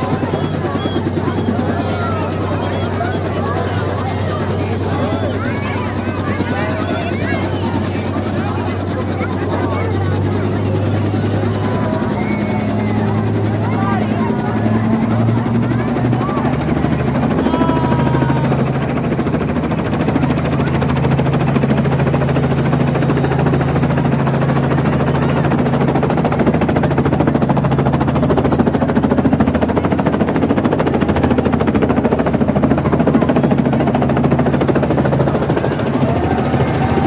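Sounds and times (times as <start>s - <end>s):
helicopter engine hum: 0.0s - 37.0s
helicopter rotor beat: 0.0s - 37.0s.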